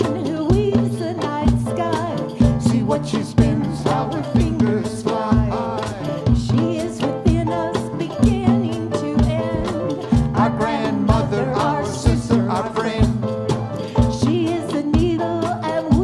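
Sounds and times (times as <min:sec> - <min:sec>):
band music with steady beat: 0:00.0 - 0:16.0
sliding melody line: 0:00.0 - 0:16.0.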